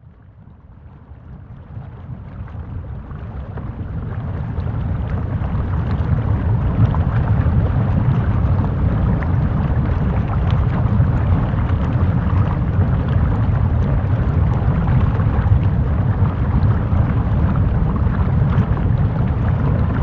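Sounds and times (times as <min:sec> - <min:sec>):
lava flow rumbling: 0:00.1 - 0:20.0.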